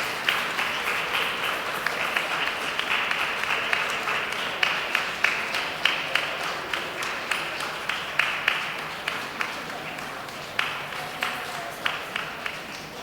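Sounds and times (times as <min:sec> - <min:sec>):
audience applauding: 0:00.0 - 0:13.0
sharp nearby claps: 0:00.0 - 0:13.0.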